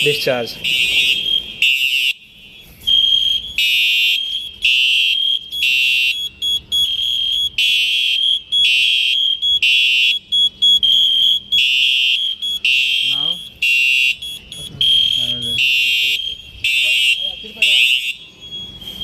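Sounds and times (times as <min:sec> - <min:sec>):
fire alarm sounders: 0:00.0 - 0:19.0.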